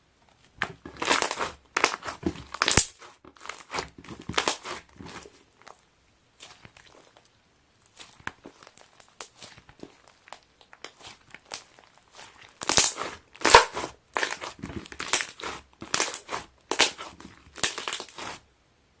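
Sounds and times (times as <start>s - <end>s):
slime squished by hand: 0.6s - 5.8s, 6.4s - 18.4s.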